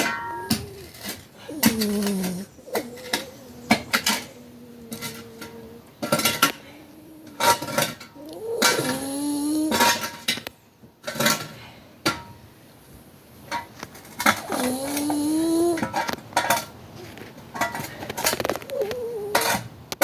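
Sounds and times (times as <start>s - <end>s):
puppy snoring: 0.0s - 10.5s, 13.8s - 20.0s.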